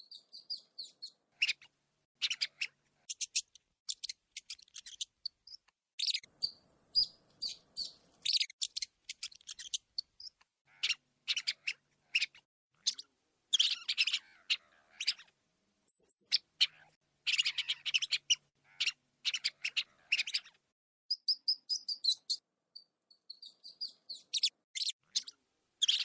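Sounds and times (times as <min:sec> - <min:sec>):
rats squeaking: 0:00.0 - 0:15.3, 0:15.9 - 0:26.0.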